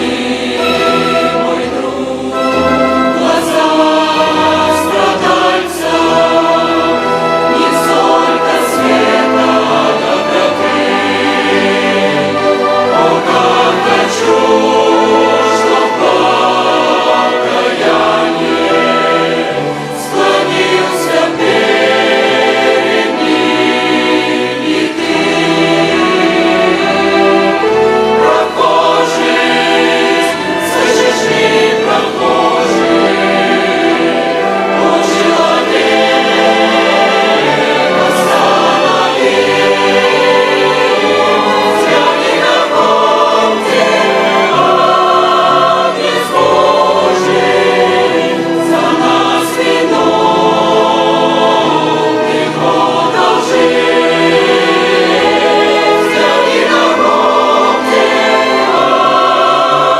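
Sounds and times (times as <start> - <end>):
choir singing a hymn in harmony: 0.0 - 59.9
violin orchestra: 0.0 - 59.9.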